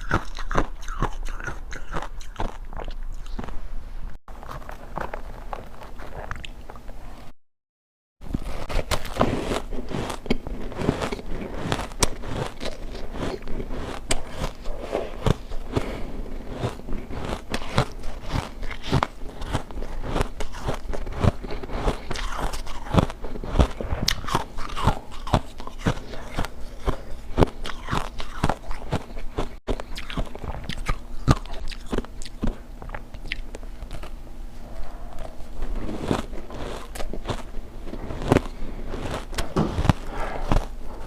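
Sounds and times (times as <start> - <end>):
ice being chewed: 0.0 - 3.6, 4.3 - 7.3, 8.2 - 41.0.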